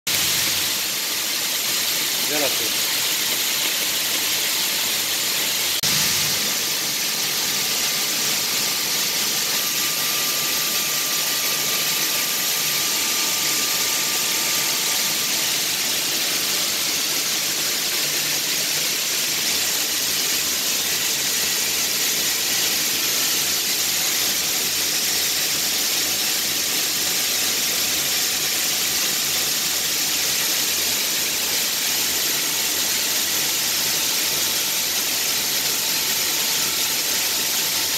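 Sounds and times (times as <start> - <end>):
machinery and water hiss: 0.1 - 37.9.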